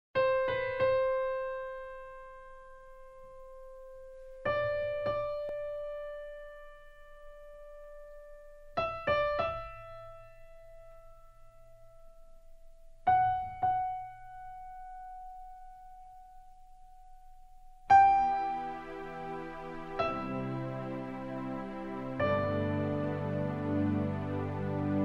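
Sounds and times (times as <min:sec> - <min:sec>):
slow piano notes: 0:00.2 - 0:25.0.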